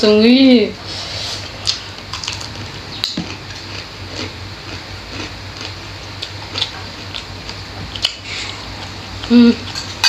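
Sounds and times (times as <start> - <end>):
steady low hum: 0.0 - 10.0
people chewing with mouth clicks: 1.6 - 10.0.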